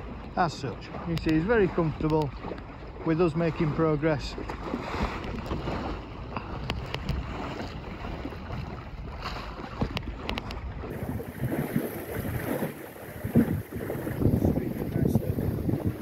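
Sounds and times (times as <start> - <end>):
boat clicks and knocks: 0.0 - 11.0, 13.2 - 16.0
water rushing past hull: 0.0 - 16.0
wind buffeting microphone: 0.0 - 16.0.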